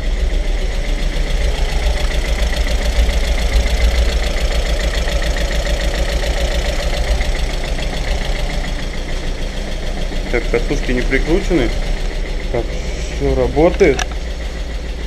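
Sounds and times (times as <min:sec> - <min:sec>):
car engine idling roughly: 0:00.0 - 0:15.0
ticking engine clatter: 0:00.0 - 0:15.0.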